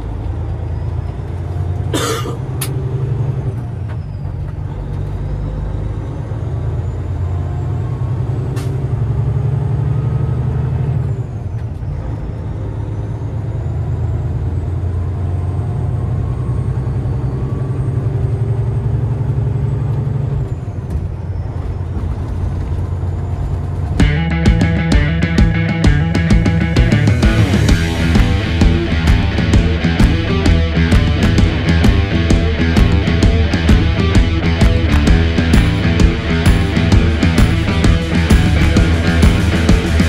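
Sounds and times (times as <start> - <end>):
diesel truck engine under load: 0.0 - 40.0.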